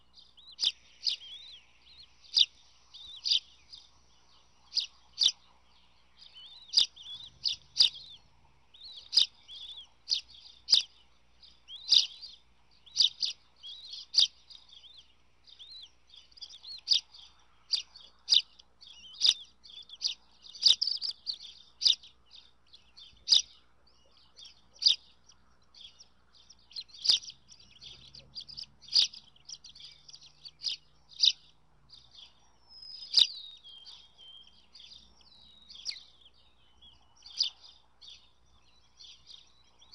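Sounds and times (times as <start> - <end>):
eagle chicks peeping: 0.0 - 39.9.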